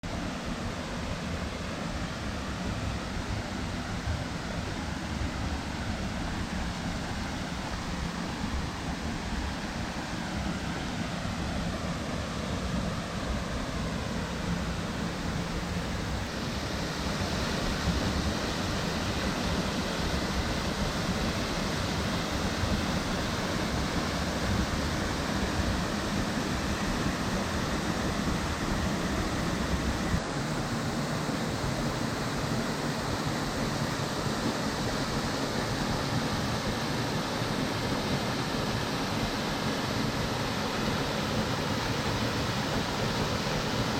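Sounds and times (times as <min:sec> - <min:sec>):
waterfall rushing: 0:00.3 - 0:43.9.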